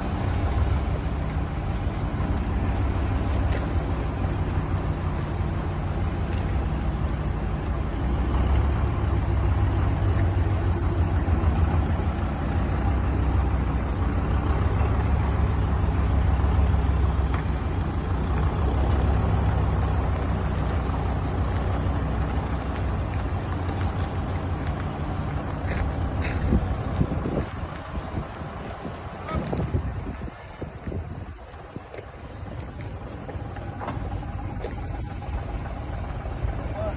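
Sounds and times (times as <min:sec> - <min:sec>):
large vehicle engine rumbling: 0:00.0 - 0:36.9.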